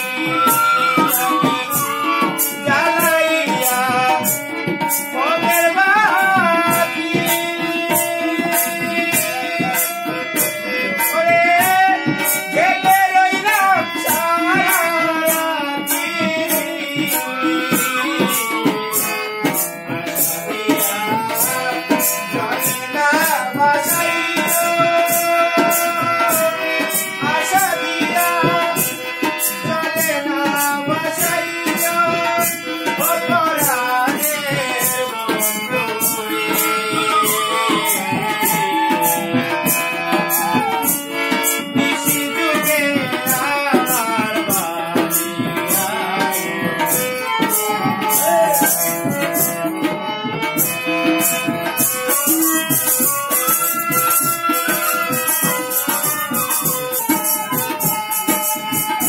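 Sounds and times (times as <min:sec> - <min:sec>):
hand drums: 0:00.0 - 0:59.0
harmonium: 0:00.0 - 0:59.0
jingling hand percussion: 0:00.0 - 0:59.0
person singing: 0:00.0 - 0:59.0.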